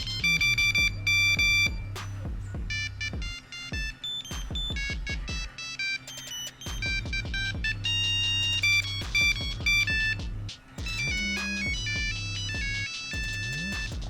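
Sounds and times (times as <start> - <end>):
monophonic ringtone melody: 0.0 - 14.0.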